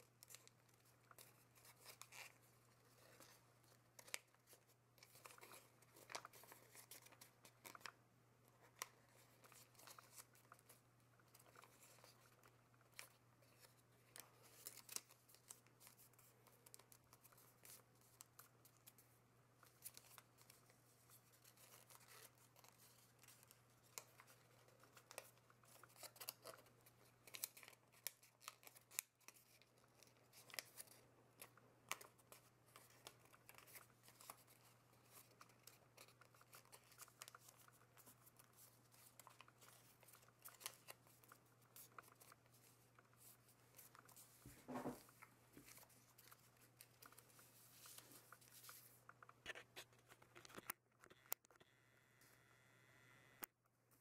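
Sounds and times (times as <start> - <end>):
paper crinkling while folded: 0.0 - 50.8.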